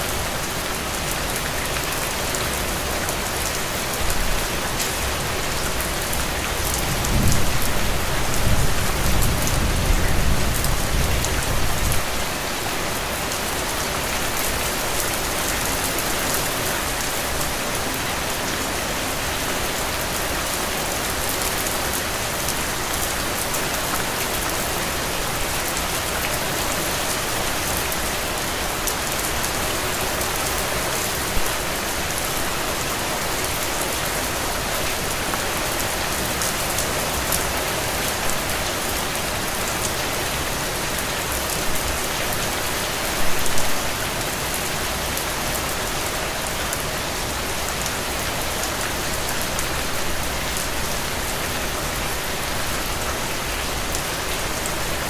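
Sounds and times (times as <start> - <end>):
heavy rain on ground and puddles: 0.0 - 55.0.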